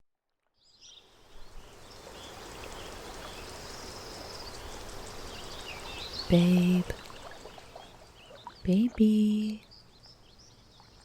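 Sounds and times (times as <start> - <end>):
gentle lapping water: 1.3 - 11.0.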